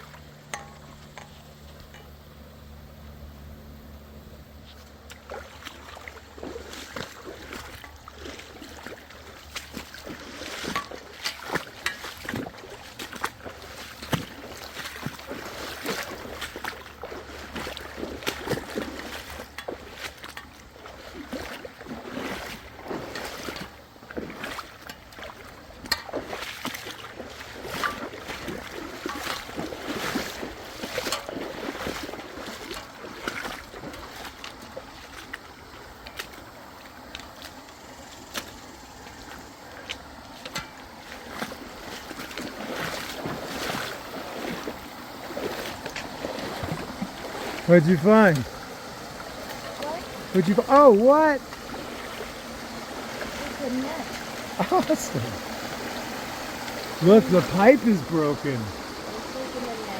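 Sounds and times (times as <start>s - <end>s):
water sloshing: 0.0s - 2.1s, 4.6s - 59.9s.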